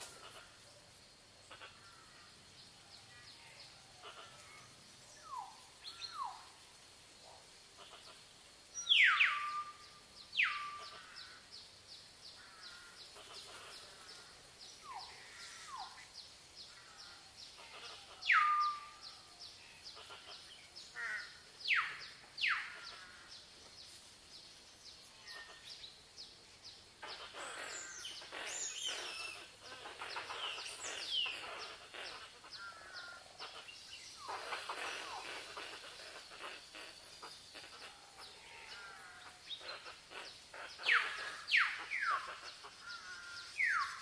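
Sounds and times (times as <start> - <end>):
chorus of bird chirps: 0.0 - 44.0.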